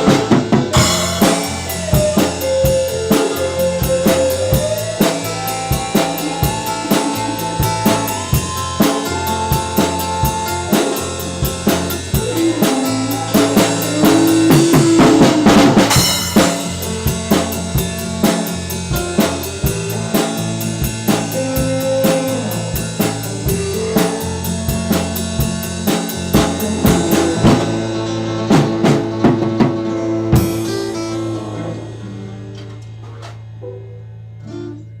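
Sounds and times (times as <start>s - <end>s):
drum kit: 0.0s - 34.9s
rock band playing: 0.0s - 35.0s.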